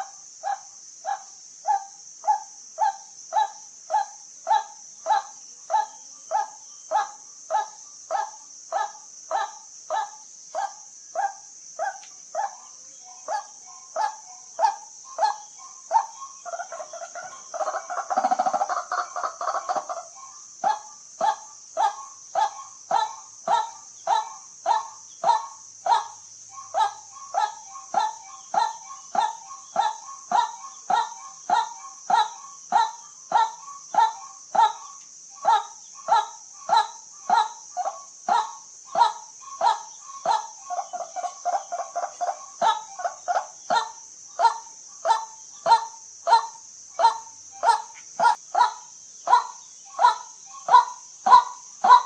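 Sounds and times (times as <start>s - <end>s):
bird croaking calls: 0.0s - 52.0s.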